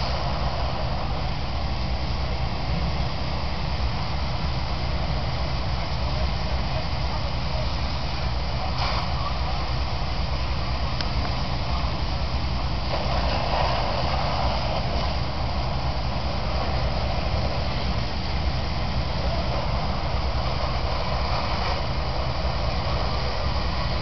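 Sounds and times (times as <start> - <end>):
constant hiss: 0.0 - 24.0
diesel truck engine idling: 0.0 - 24.0.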